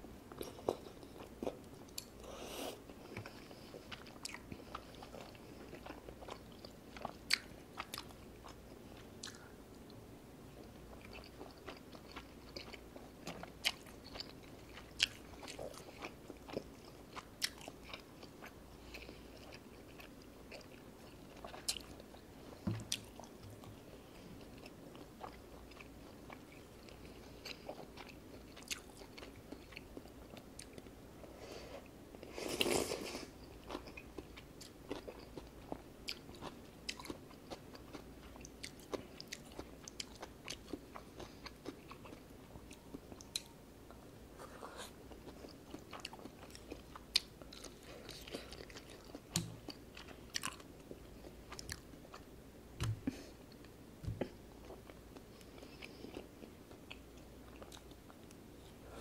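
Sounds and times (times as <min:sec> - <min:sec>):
chewing food: 0:02.9 - 0:09.9, 0:10.6 - 0:30.9, 0:32.6 - 0:59.0.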